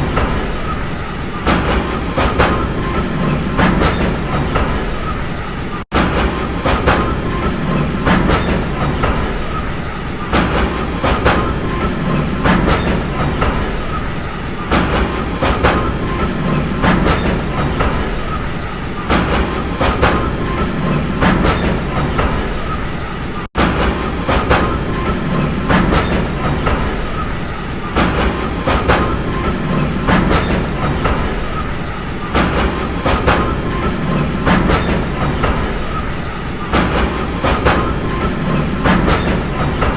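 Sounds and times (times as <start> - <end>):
train rumbling on rails: 0.0 - 39.9
wheels clicking over rail joints: 0.0 - 39.9.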